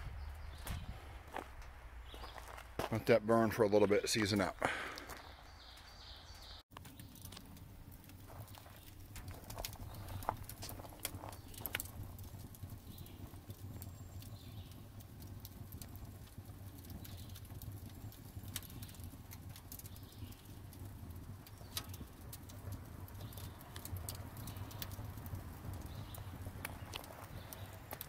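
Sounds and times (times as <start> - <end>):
coals crackling and popping: 0.0 - 28.0.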